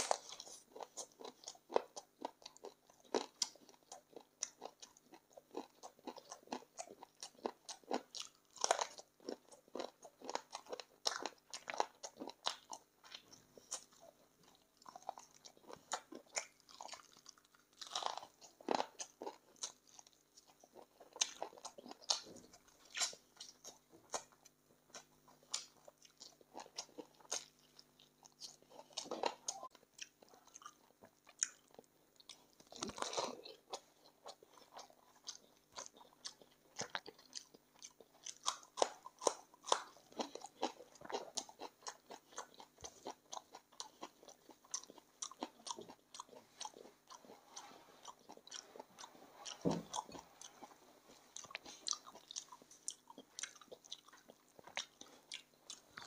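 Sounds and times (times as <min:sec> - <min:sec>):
person chewing wetly: 0:00.0 - 0:56.0.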